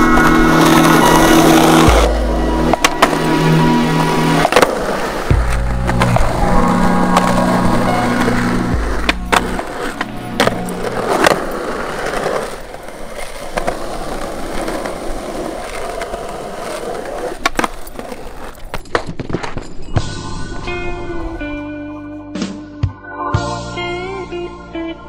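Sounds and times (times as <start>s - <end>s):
skateboard clacking on ground: 0.0s - 20.1s
skateboard wheels rolling on concrete: 0.0s - 20.1s.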